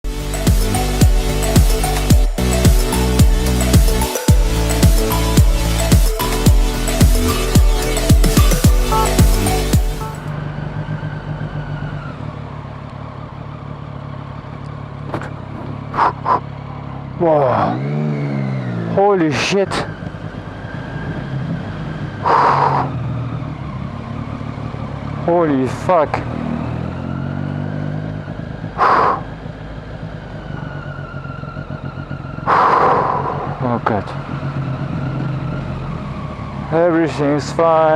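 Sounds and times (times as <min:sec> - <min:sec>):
motorcycle engine running: 0:00.0 - 0:37.9
wind and road noise: 0:05.1 - 0:37.9.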